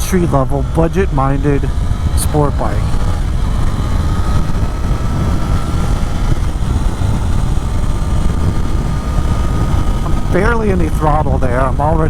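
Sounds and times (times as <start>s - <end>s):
motorcycle engine cruising: 0.0s - 12.0s
wind buffeting microphone: 0.0s - 12.0s.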